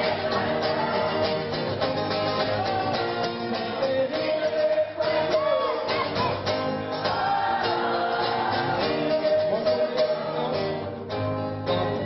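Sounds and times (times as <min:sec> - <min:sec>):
men singing: 0:00.0 - 0:11.0, 0:11.6 - 0:12.0
strummed acoustic guitars: 0:00.0 - 0:12.0.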